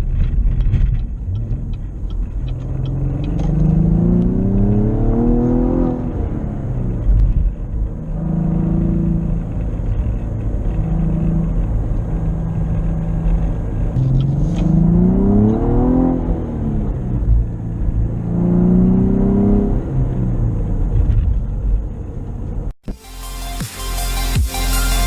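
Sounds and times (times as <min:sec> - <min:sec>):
car engine accelerating: 0:00.0 - 0:22.8.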